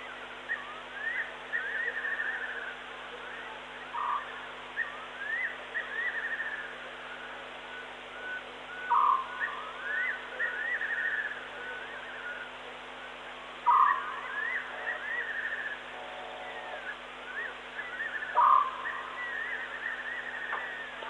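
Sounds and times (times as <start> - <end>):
steady low hum and hiss: 0.0 - 21.0.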